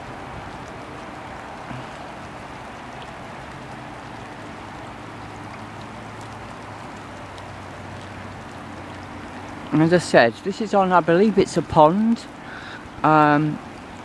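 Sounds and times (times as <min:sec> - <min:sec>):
raindrop ticks: 0:00.0 - 0:14.0
steady rain falling: 0:00.0 - 0:14.0.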